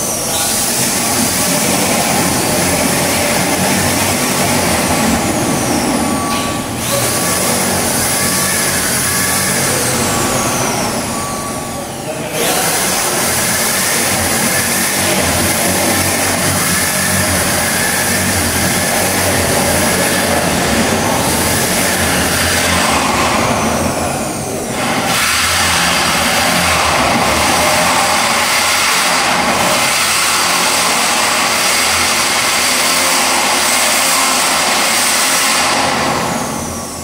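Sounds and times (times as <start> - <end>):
electric power drill drilling: 0.0 - 37.0.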